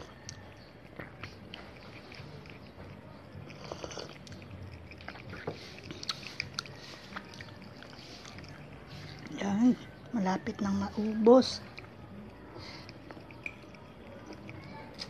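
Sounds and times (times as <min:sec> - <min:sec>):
cat chewing: 0:00.0 - 0:15.0
low steady hum: 0:00.0 - 0:15.0.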